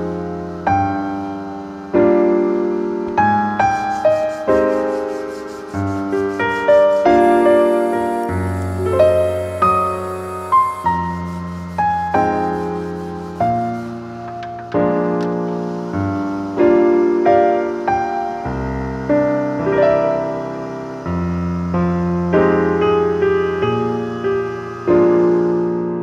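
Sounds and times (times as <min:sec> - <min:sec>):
slow piano piece: 0:00.0 - 0:26.0.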